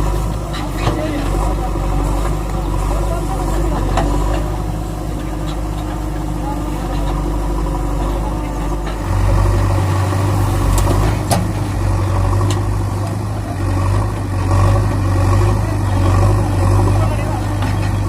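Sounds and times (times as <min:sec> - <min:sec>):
tractor engine humming: 0:00.0 - 0:18.0.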